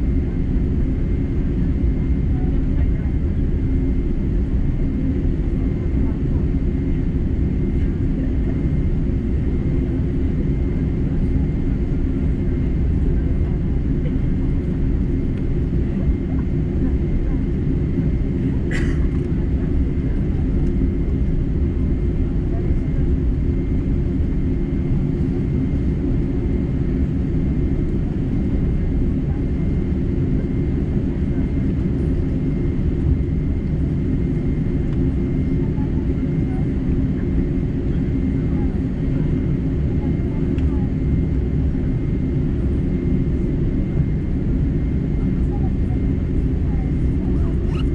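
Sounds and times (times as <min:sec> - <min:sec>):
jet engines deep rumble: 0:00.0 - 0:47.9.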